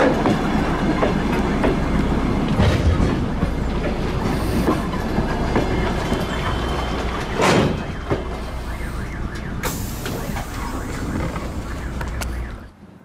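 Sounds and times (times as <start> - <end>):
train clatter: 0.0 - 12.6
train wheels rumbling on rails: 0.0 - 12.8.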